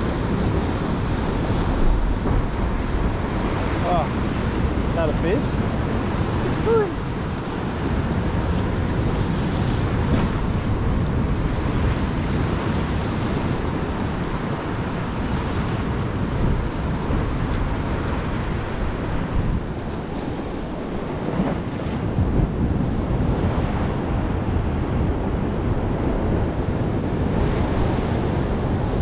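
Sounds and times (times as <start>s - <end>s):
ocean swell surging around rocks: 0.0s - 29.0s
wind buffeting microphone: 0.0s - 29.0s.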